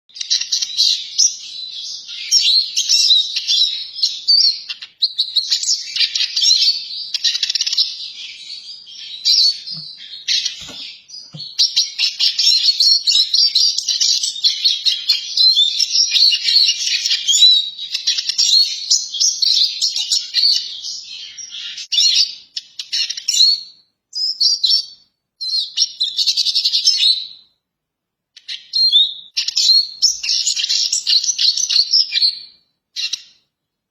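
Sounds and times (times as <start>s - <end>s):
bird twittering song: 0.1s - 27.5s, 28.4s - 33.6s.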